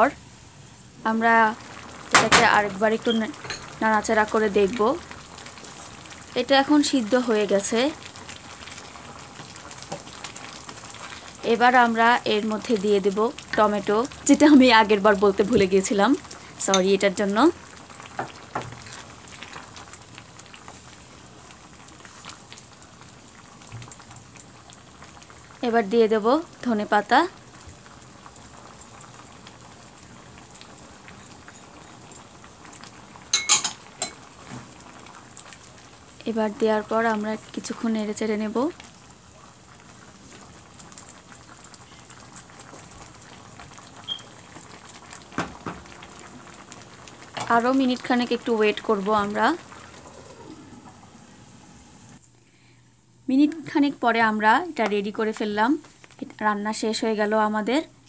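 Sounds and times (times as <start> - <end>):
dal simmering with popping bubbles: 0.0 - 58.0.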